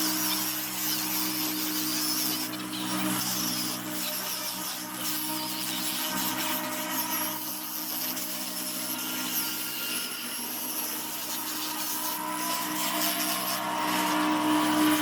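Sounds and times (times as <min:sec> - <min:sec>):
power sander on wood: 0:00.0 - 0:15.0.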